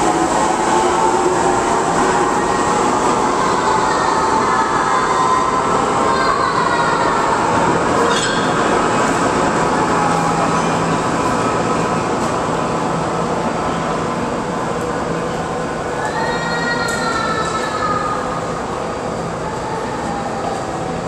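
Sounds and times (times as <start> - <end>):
subway train motors howling: 0.0 - 21.0
wheels rumbling on rail: 0.0 - 21.0.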